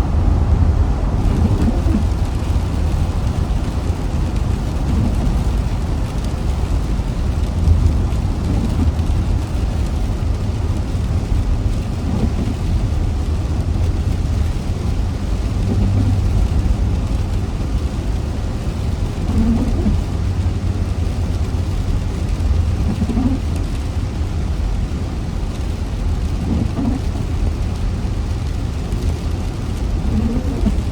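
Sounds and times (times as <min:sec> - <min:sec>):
rain hissing: 0:00.0 - 0:30.9
road and engine rumble: 0:00.0 - 0:30.9.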